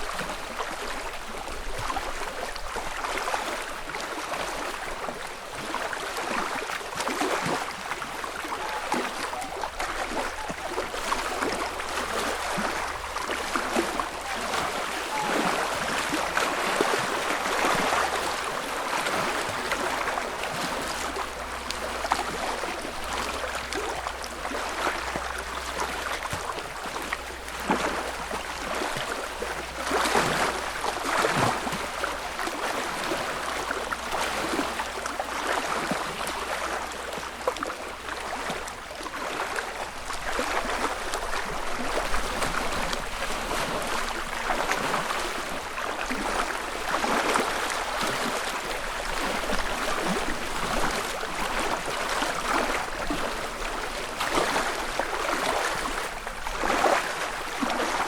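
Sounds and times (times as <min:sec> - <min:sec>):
lake waves lapping on shore: 0:00.0 - 0:58.0.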